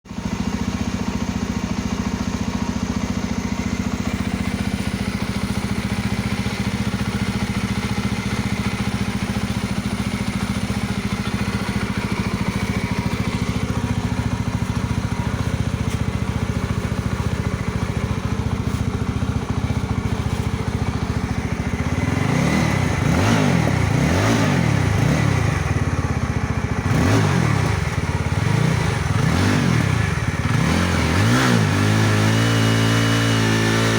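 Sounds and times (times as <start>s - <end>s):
motorcycle engine idling: 0.1s - 33.9s
motorcycle throttle blips: 0.2s - 33.2s.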